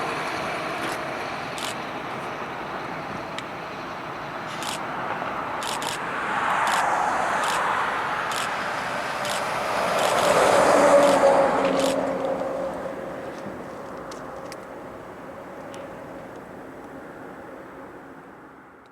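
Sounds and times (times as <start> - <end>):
vehicles passing by: 0.0 - 18.9.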